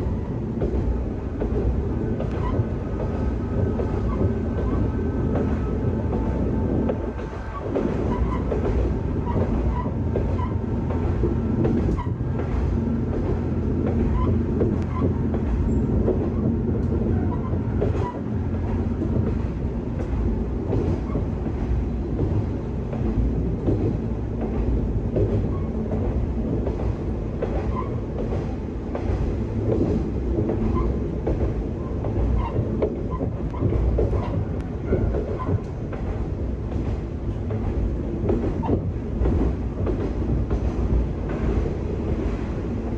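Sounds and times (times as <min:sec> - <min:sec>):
wheels clicking over rail joints: 0:00.0 - 0:42.9.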